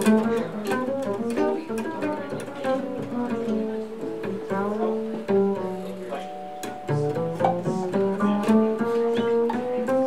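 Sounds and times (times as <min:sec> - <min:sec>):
picked jazz guitar notes: 0:00.0 - 0:10.0
upright bass plucked: 0:00.0 - 0:10.0.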